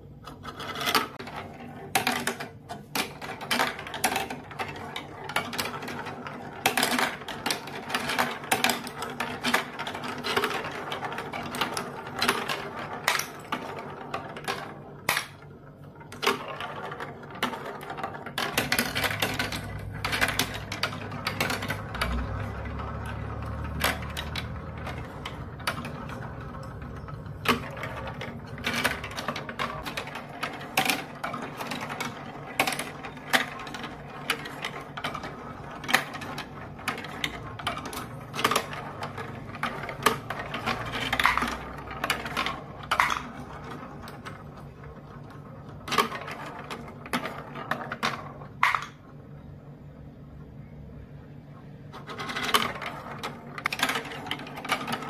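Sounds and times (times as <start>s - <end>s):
marbles rolling on plastic track: 0.0s - 49.3s, 51.9s - 55.0s
marbles clicking against track: 0.3s - 49.0s, 52.0s - 55.0s.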